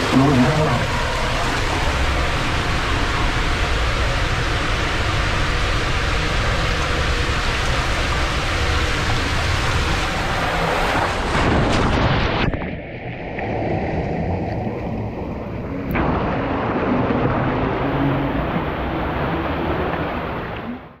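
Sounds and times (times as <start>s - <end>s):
rushing water in slide tube: 0.0s - 21.0s.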